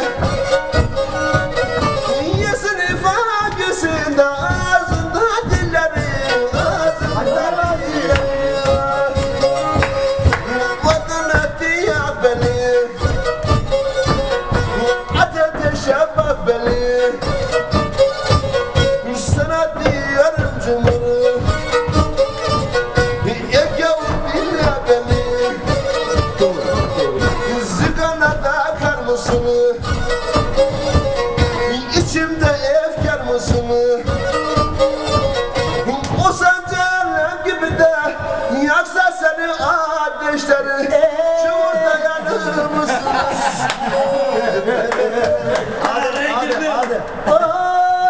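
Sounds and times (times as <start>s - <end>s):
steady beat: 0.0s - 40.5s
bowed fiddle folk tune: 0.0s - 48.0s.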